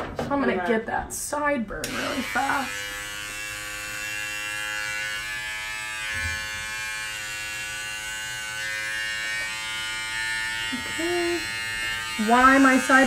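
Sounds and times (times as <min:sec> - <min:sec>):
electric hair clipper buzzing: 0:01.8 - 0:13.0.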